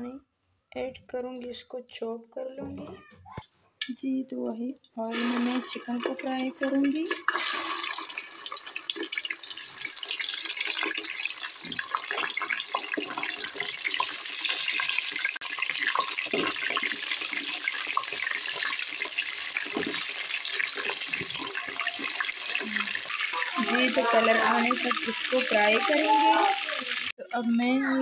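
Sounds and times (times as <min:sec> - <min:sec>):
chicken sizzling in hot oil: 0:05.0 - 0:27.8.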